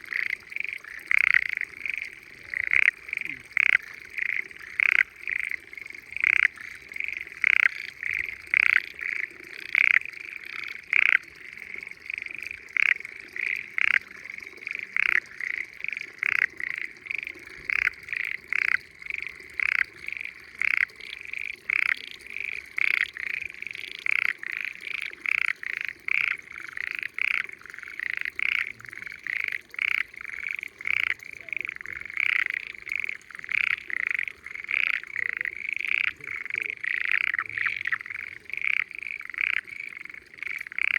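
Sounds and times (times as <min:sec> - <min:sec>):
frogs calling in chorus: 0:00.0 - 0:40.9.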